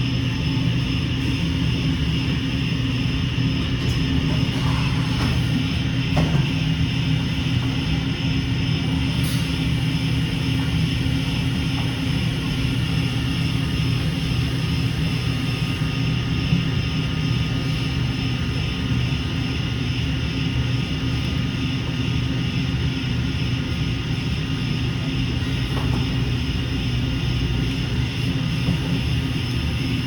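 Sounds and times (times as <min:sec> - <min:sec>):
milling machine droning: 0:00.0 - 0:30.0.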